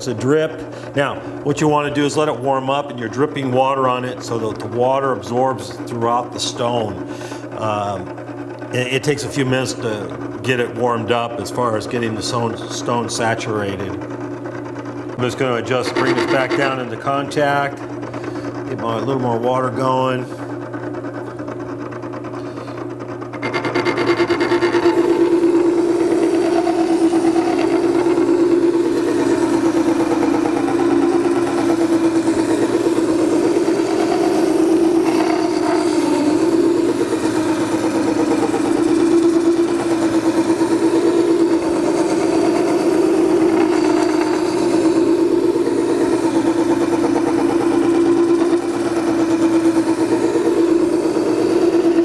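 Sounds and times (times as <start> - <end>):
wet sharpener running: 0.0 - 52.0.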